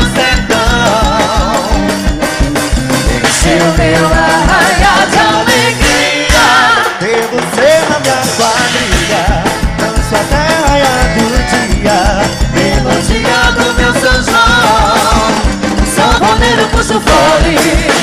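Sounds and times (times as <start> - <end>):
accordion melody: 0.0 - 18.0
steady bass drum beat: 0.0 - 18.0.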